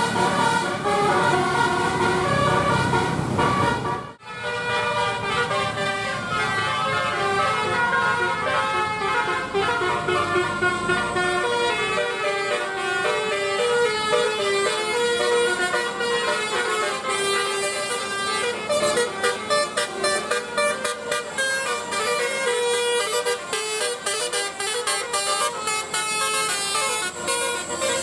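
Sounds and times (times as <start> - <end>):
musical air horn melody: 0.0 - 28.0.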